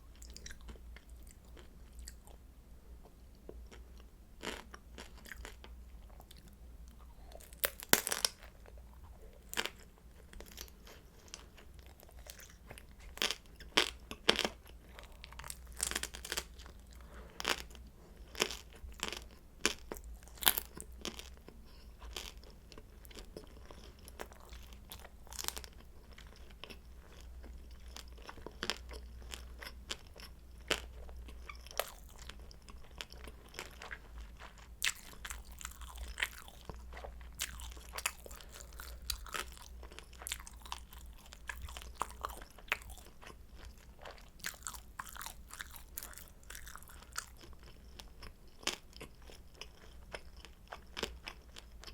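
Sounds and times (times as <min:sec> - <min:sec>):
crunchy chewing: 0:00.1 - 0:02.4, 0:03.7 - 0:51.9.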